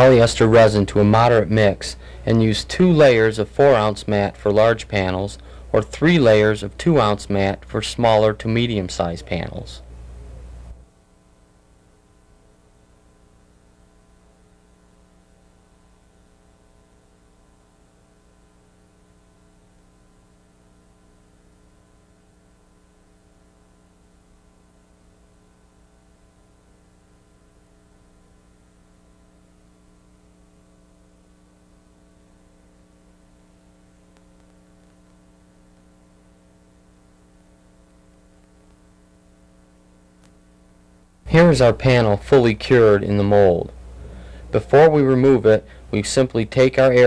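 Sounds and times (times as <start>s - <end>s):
electrical mains hum with hiss: 0.0s - 47.0s.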